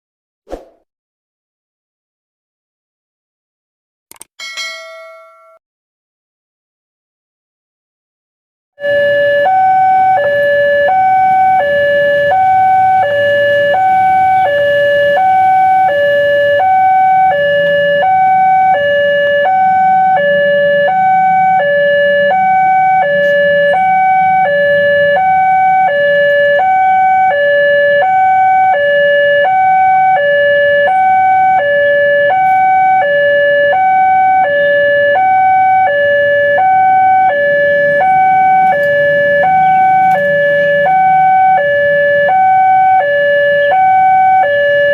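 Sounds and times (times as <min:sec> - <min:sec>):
two-tone crossing alarm: 0:08.8 - 0:44.9.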